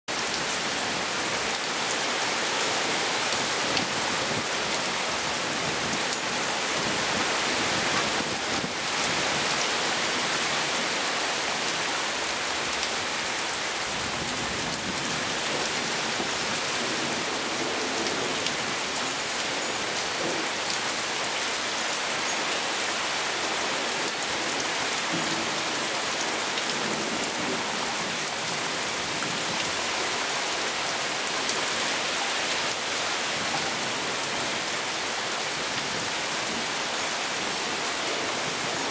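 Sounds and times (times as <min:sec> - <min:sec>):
heavy rain pouring: 0:00.1 - 0:38.9.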